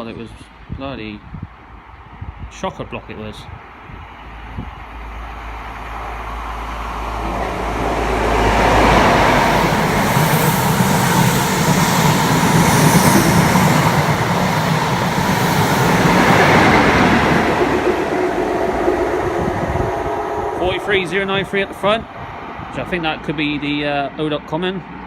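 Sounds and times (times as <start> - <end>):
diesel train engine hum: 3.6 - 25.0
train wheels rumbling: 3.8 - 24.2.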